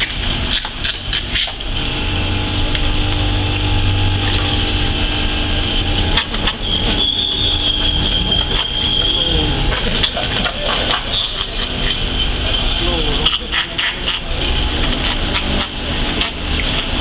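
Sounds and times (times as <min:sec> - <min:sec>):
high steady whine: 0:00.0 - 0:17.0
motor hum: 0:00.0 - 0:17.0.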